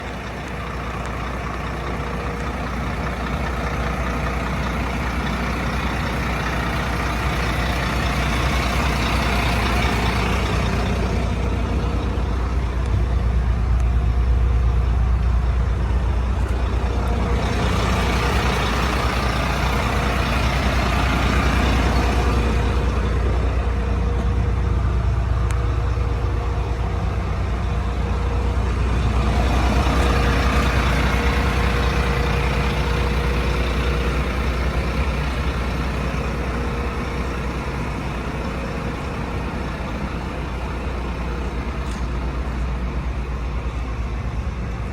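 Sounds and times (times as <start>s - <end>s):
fire engine humming: 0.0s - 44.9s.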